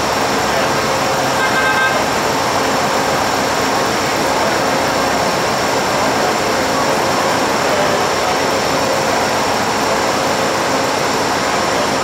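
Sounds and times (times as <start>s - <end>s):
diesel locomotive engine roaring: 0.0s - 12.0s.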